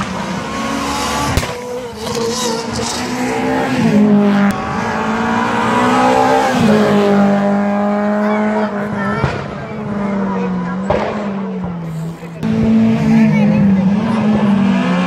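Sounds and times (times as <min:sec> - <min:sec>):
rally car accelerating: 0:00.0 - 0:15.0.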